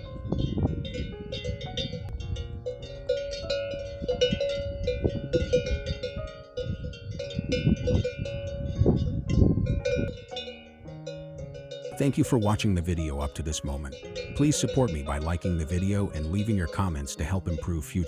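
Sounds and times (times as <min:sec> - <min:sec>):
cowbells clanking: 0:00.0 - 0:18.0.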